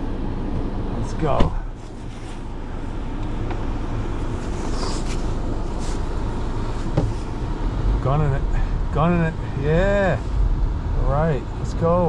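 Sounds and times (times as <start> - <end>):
car engine under hard throttle: 0.0 - 12.0.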